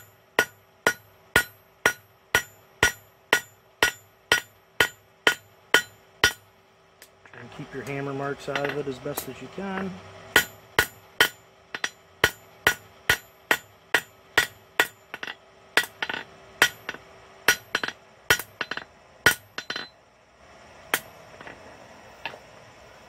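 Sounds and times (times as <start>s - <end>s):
hammer striking steel on anvil: 0.0s - 7.1s, 7.8s - 20.0s, 20.9s - 21.6s.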